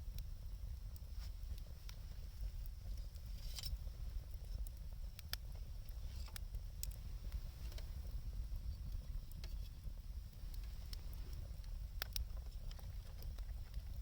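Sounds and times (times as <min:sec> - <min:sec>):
wood bonfire crackling: 0:00.0 - 0:14.0.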